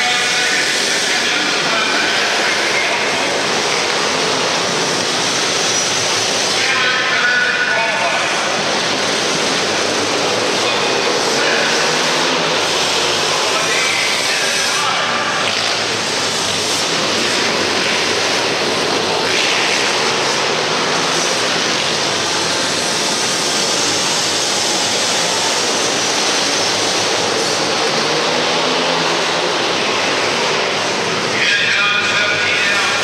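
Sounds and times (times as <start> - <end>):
pit bike engines racing: 0.0 - 33.0.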